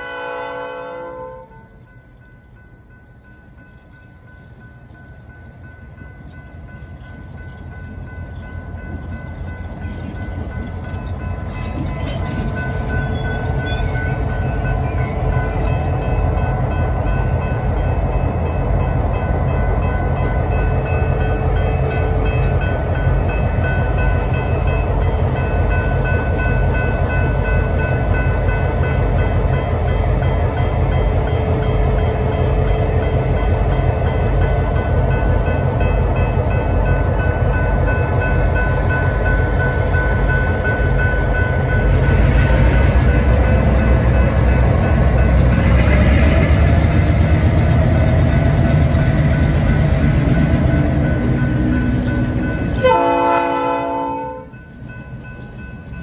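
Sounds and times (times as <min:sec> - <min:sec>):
crossing warning bell ringing: 0:00.0 - 0:56.0
locomotive engine rumbling: 0:01.7 - 0:56.0.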